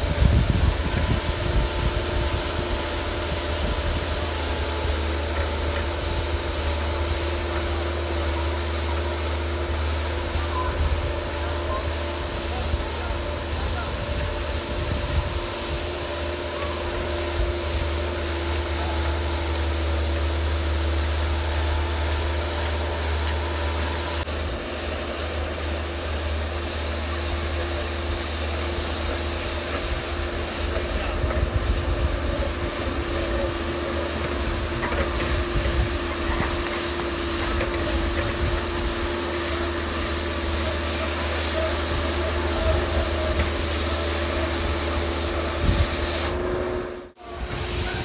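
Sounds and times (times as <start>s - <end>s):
loader engine droning: 0.0s - 48.0s
snow blower throwing snow: 0.0s - 48.0s.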